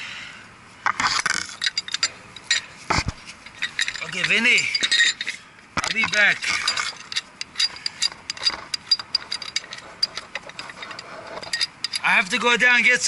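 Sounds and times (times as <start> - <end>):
metal tools clinking and knocking: 1.0 - 12.5.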